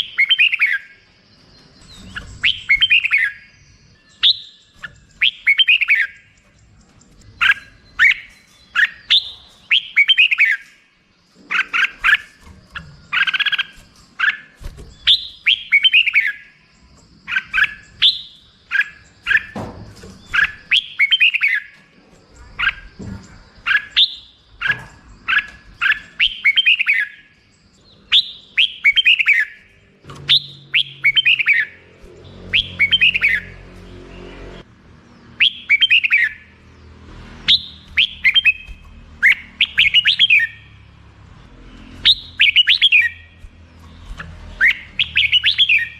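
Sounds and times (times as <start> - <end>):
bird singing chirpy phrases: 0.0 - 45.9.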